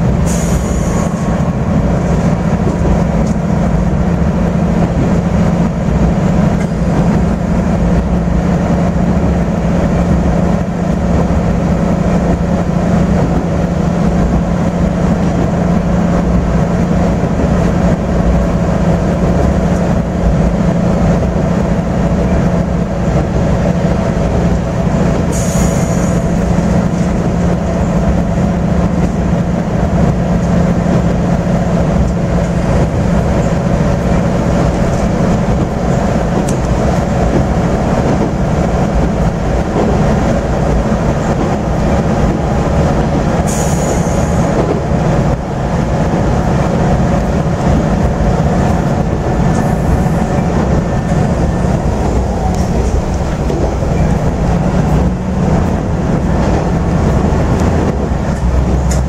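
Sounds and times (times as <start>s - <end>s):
diesel engine droning: 0.0s - 59.0s
wheels rumbling on rails: 0.0s - 59.0s.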